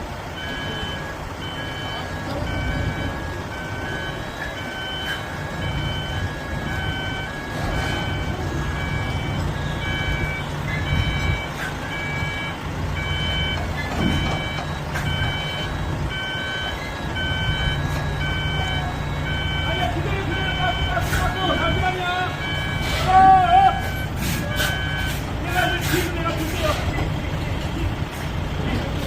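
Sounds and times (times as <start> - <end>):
reversing alarm beeps: 0.4 - 26.7.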